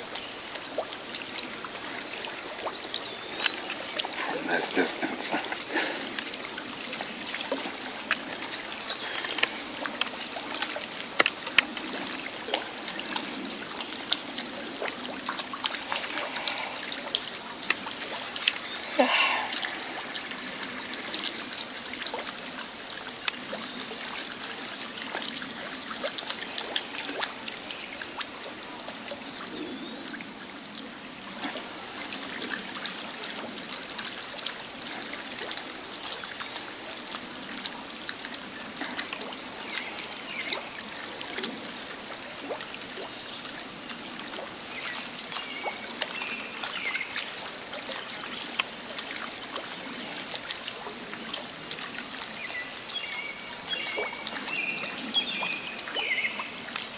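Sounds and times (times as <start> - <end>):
river water babbling: 0.0 - 56.9
small splashes and drips: 0.0 - 56.9.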